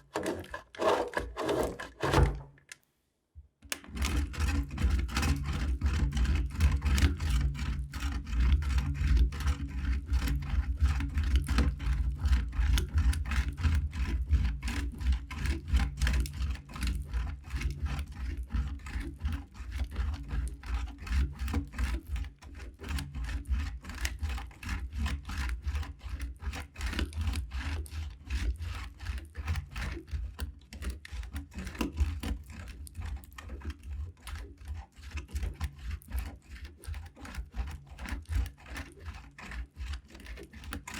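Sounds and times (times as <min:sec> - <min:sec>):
knife cutting dry soap: 0:00.0 - 0:02.8, 0:03.6 - 0:40.9.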